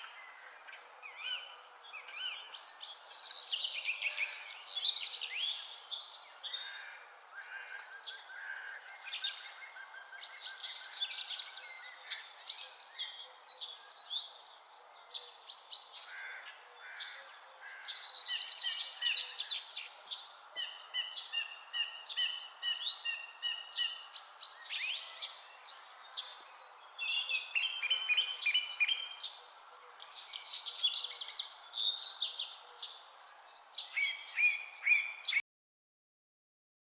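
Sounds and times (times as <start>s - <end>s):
songbirds singing and calling: 0.0s - 35.4s.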